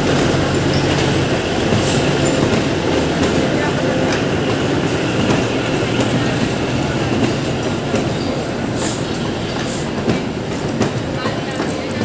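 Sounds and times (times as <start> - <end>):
train running on track: 0.0 - 12.0.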